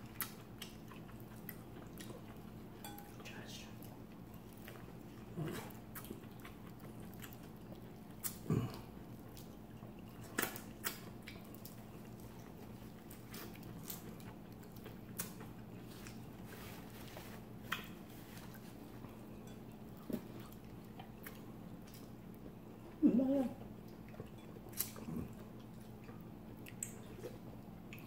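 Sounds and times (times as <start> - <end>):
chewing and lip smacks: 0.0 - 28.0
low steady hum: 0.0 - 28.0.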